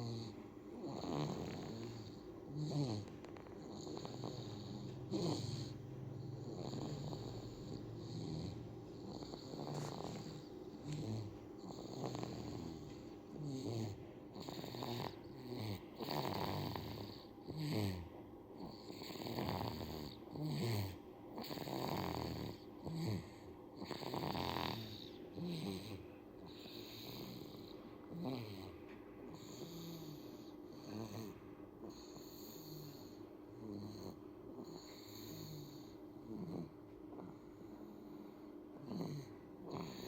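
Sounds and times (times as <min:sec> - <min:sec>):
baby snoring: 0:00.0 - 0:40.0.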